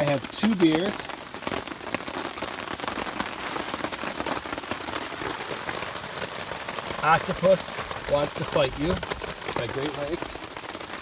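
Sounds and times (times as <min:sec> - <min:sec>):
heavy rain falling: 0:00.0 - 0:11.0
raindrops striking close by: 0:00.0 - 0:11.0.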